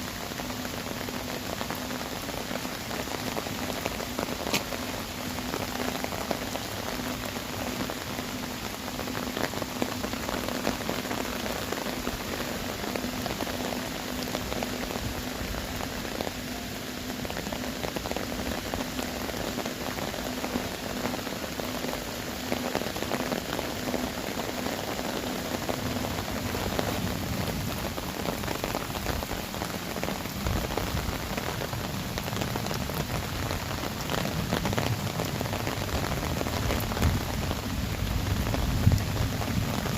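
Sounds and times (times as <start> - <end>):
heavy rain on jars and stone: 0.0 - 39.9.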